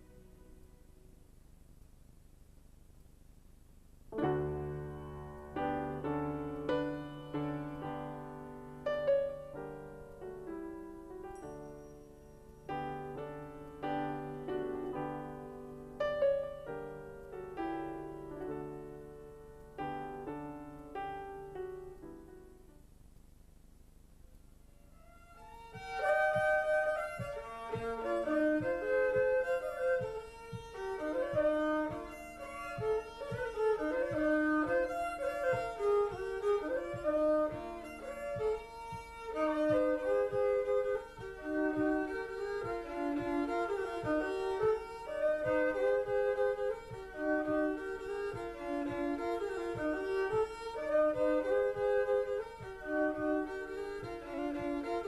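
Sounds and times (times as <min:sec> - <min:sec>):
soft steady beat: 0:00.0 - 0:55.0
lively fiddle tune: 0:04.2 - 0:22.1, 0:24.8 - 0:55.0.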